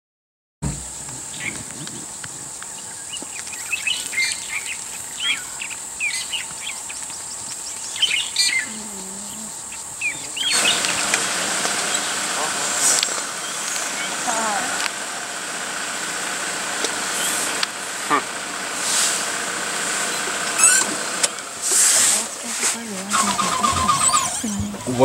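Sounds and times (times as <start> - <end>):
birds chirping: 0.6 - 25.0
high insect buzz: 0.6 - 25.0.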